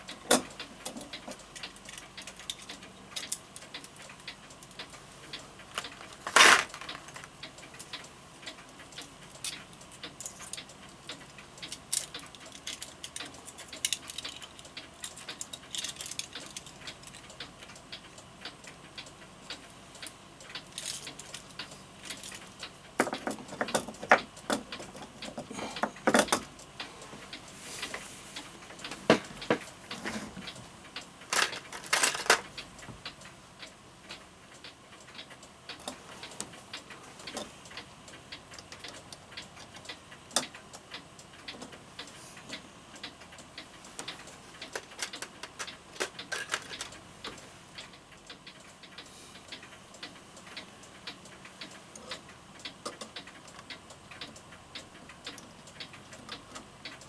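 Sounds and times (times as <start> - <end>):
clock mechanism clicks and ticks: 0.0 - 57.0.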